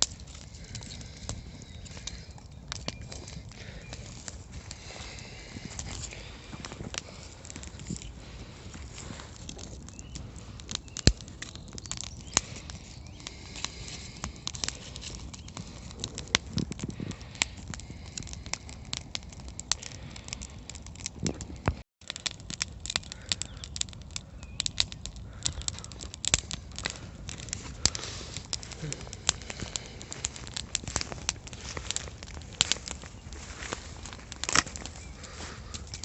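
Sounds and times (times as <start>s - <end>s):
dry wood snapping and crackling: 0.0s - 36.0s.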